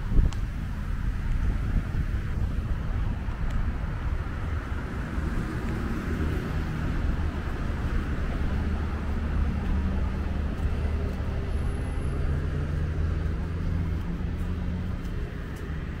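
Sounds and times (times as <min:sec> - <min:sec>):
road noise: 0:00.0 - 0:16.0
road traffic engine hum: 0:00.0 - 0:16.0.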